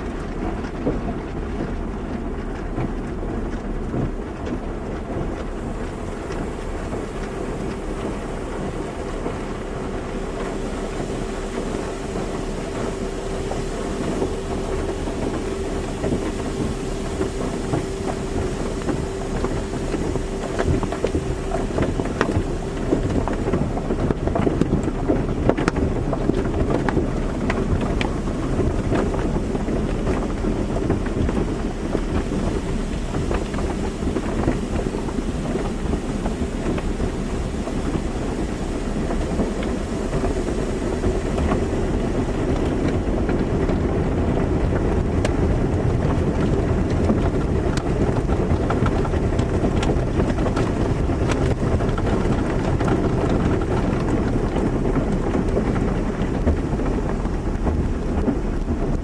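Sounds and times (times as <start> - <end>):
motor hum: 0.0 - 59.0
water spray and machinery: 0.0 - 59.0.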